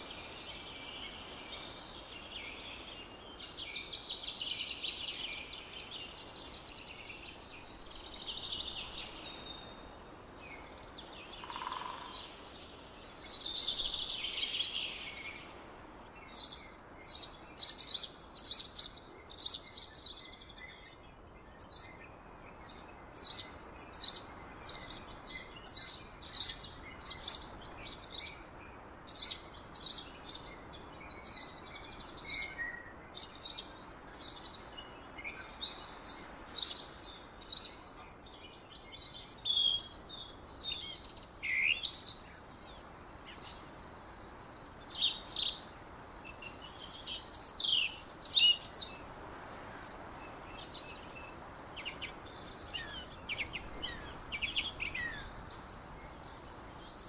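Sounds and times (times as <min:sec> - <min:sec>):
faint steady hiss: 0:00.0 - 0:57.0
small birds chirping: 0:00.0 - 0:57.0.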